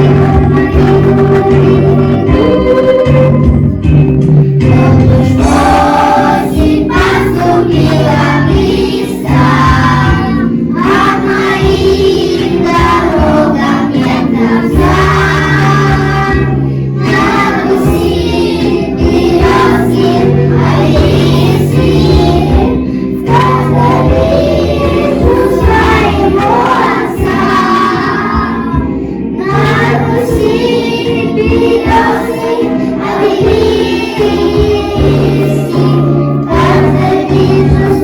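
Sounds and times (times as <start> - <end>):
children singing: 0.0 - 3.5, 4.6 - 38.0
backing music of held chords: 0.0 - 38.0.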